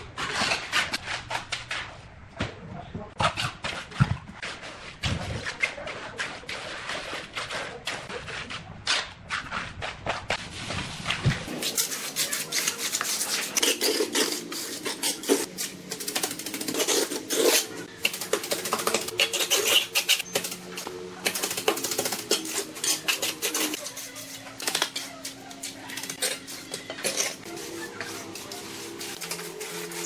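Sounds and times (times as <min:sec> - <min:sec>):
trowel scraping and slapping mortar: 0:00.0 - 0:02.0, 0:03.2 - 0:30.0.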